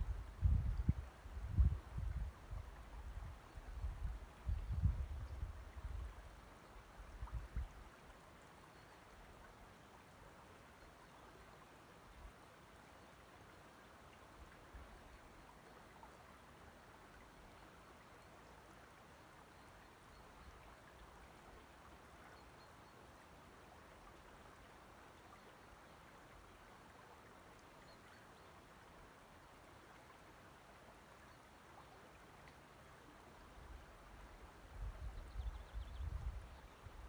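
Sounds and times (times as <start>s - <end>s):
water trickling over pebbles: 0.3s - 36.7s.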